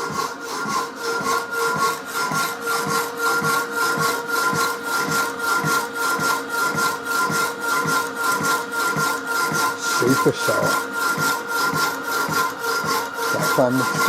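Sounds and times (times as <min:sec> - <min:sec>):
hacksaw blade sawing metal: 0:00.0 - 0:14.0.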